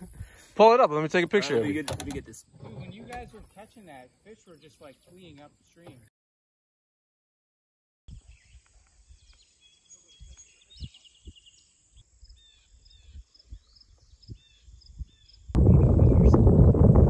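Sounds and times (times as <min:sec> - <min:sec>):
birds chirping: 0:00.0 - 0:06.1, 0:08.1 - 0:16.4.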